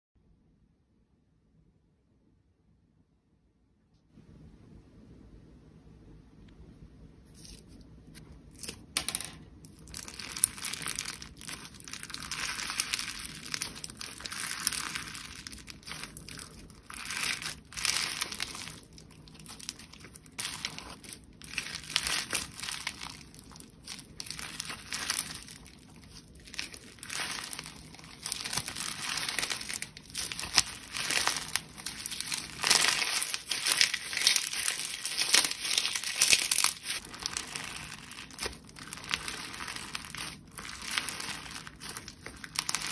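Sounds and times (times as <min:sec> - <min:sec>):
slime squishing and crackling: 0:08.4 - 0:42.9.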